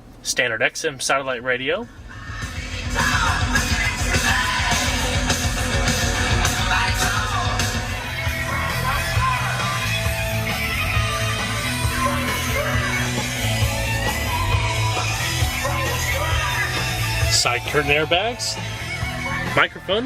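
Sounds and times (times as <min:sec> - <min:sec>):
heavy bass: 0:01.8 - 0:20.0
rock music with shouted vocals: 0:01.9 - 0:20.0.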